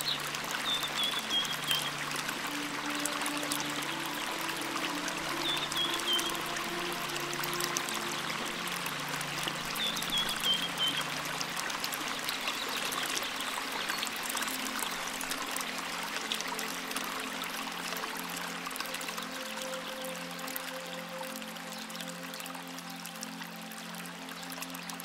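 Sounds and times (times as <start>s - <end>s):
small waterfall splashing: 0.0s - 25.0s.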